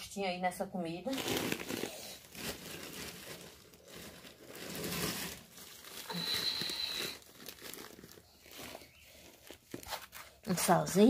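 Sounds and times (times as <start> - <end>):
plastic bag crinkling: 1.0 - 11.0.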